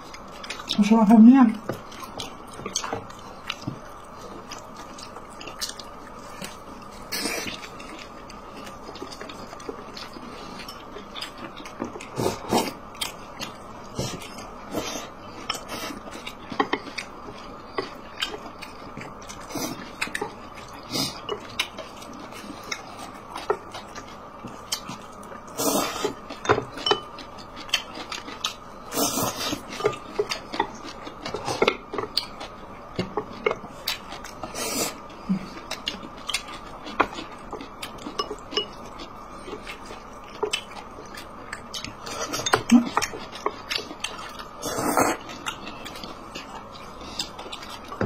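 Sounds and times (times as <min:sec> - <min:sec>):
faint background hum: 0:00.0 - 0:48.0
person chewing food: 0:00.0 - 0:48.0.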